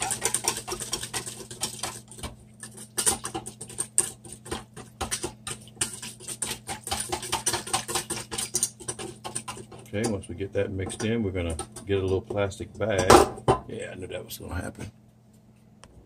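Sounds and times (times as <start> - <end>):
whisk clicking against metal bowl: 0.0 - 13.1.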